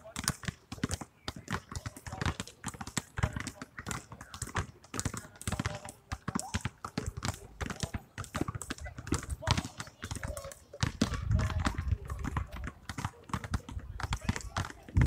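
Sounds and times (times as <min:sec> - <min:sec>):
basketballs bouncing on asphalt: 0:00.0 - 0:15.0.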